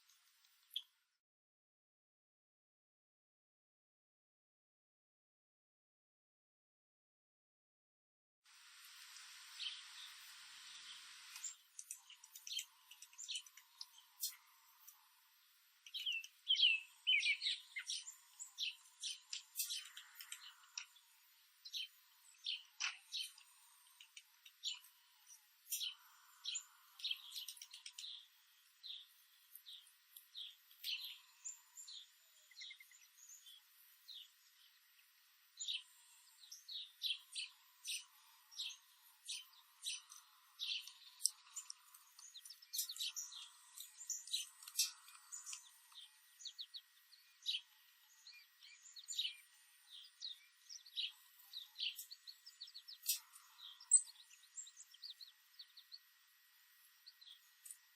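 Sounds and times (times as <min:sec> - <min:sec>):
songbirds chirping: 0:00.0 - 0:01.2, 0:08.7 - 0:57.9.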